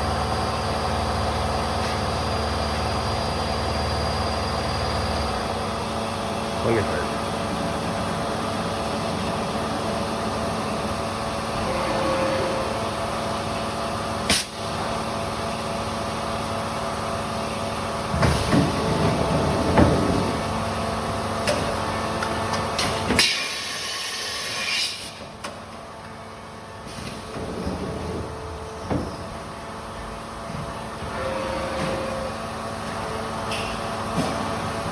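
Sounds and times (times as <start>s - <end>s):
workshop machinery humming: 0.0s - 34.9s.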